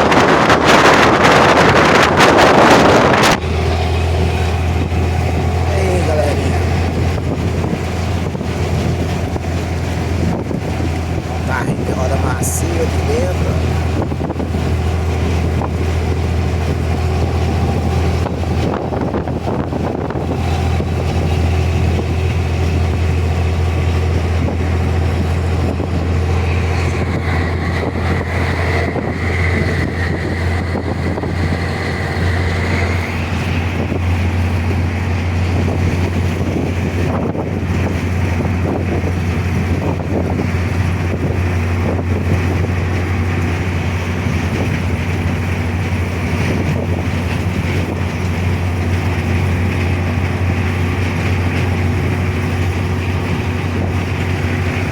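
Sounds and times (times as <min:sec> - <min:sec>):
diesel bus engine drone: 0:00.0 - 0:54.9
high whine: 0:00.0 - 0:54.9.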